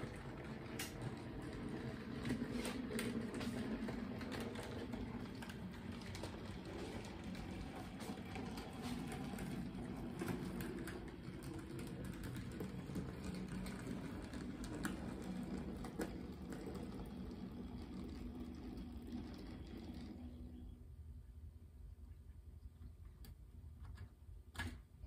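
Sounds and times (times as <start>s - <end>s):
wheels clicking on track: 0.0s - 20.8s
model train running hum: 0.0s - 20.9s.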